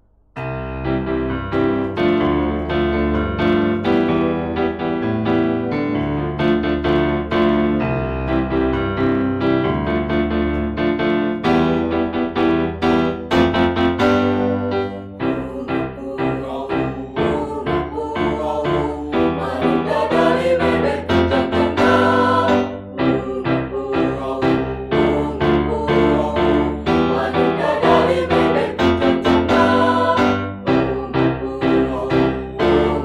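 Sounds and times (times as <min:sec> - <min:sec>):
piano music: 0:00.4 - 0:33.0.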